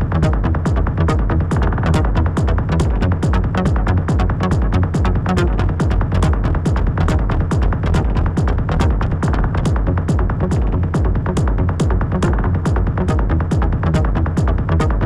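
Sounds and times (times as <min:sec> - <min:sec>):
electronic dance music: 0:00.0 - 0:15.0.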